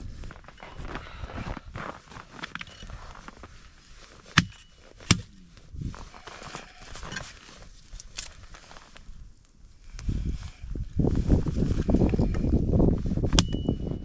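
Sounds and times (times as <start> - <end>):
rustling and crunching: 0.0 - 14.0.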